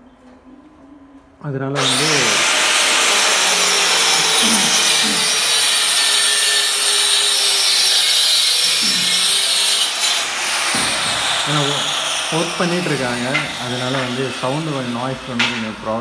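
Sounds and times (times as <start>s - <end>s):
circular saw cutting plywood: 1.8s - 16.0s.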